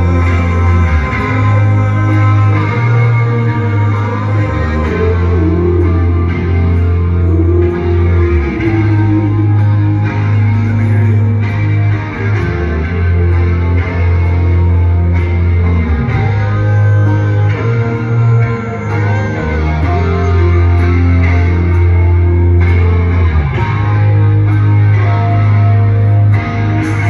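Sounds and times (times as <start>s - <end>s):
live rock band: 0.0s - 27.0s.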